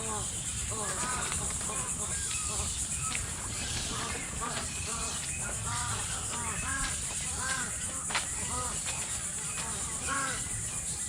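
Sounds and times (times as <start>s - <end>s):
steady high-pitched hiss: 0.0s - 11.0s
waterbirds calling: 0.0s - 11.0s.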